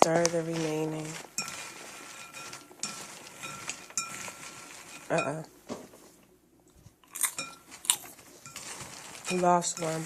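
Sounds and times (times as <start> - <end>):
utensil scraping ceramic bowl: 0.0 - 5.6, 7.2 - 10.0.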